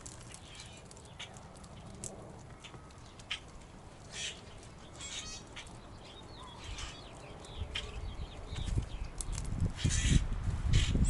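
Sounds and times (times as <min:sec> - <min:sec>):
birds chirping: 0:00.3 - 0:11.0.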